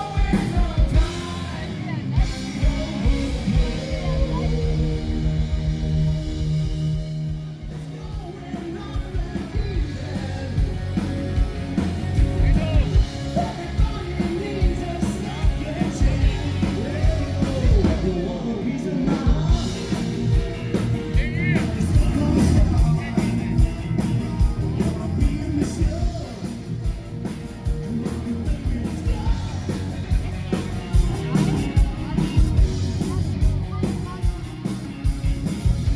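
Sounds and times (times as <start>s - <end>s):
lead vocal singing: 0.0s - 33.2s
live rock band playing: 0.0s - 35.9s.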